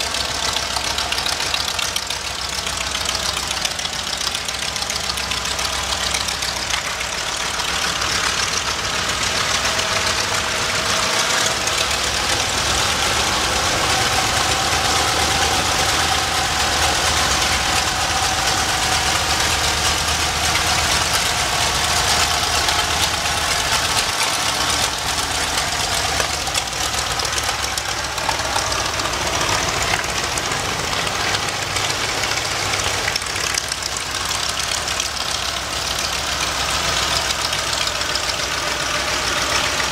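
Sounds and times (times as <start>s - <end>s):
aircraft radial engine running: 0.0s - 39.9s.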